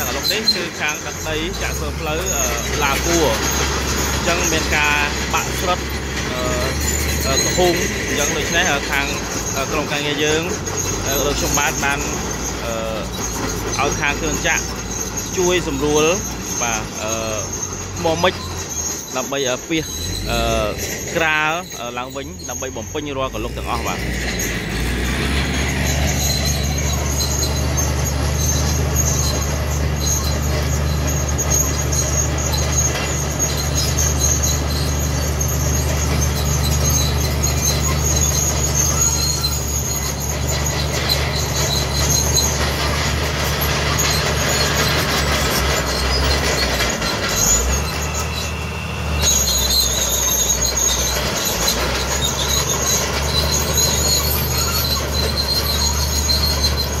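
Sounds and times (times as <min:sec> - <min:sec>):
diesel engine running: 0:00.0 - 0:57.0
tracks squealing and grinding: 0:00.0 - 0:57.0.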